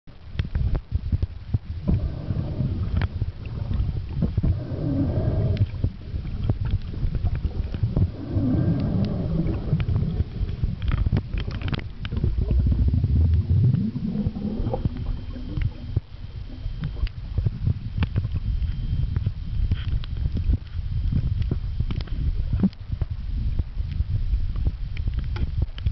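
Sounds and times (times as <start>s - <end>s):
muffled underwater water rumble: 0.1s - 25.9s
small underwater clicks and knocks: 0.1s - 25.9s.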